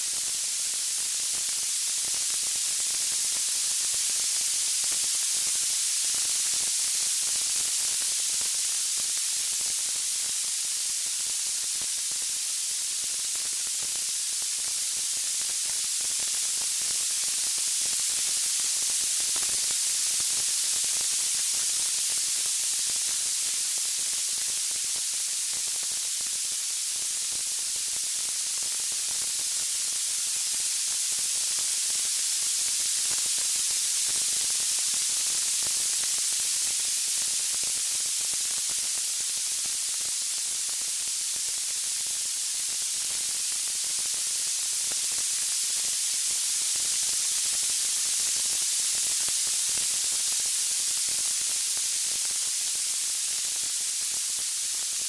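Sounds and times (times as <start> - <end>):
high-pitched white noise hiss: 0.0 - 55.0.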